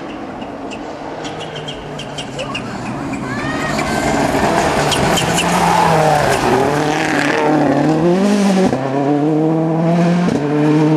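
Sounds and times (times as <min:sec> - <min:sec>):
rally car engine revving: 0:00.0 - 0:10.9.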